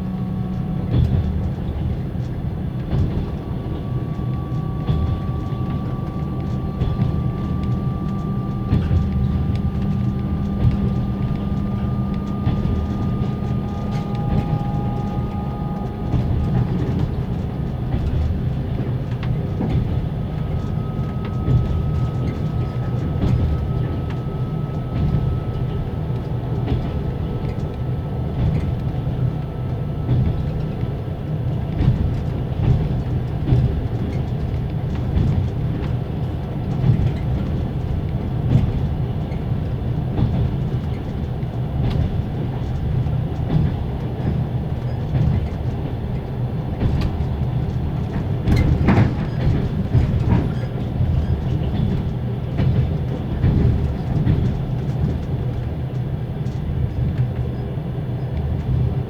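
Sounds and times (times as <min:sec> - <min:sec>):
train generator whining: 0:00.0 - 0:59.0
train running gear rumble: 0:00.0 - 0:59.0
wheels clacking over rail joints: 0:00.6 - 0:59.0.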